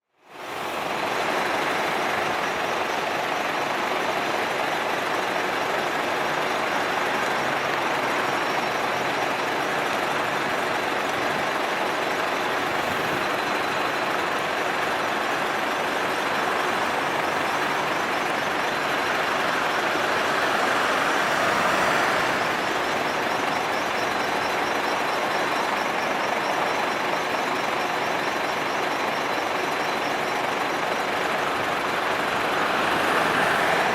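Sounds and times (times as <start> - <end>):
street noise: 0.1 - 33.9
large vehicle engine running: 0.3 - 33.9.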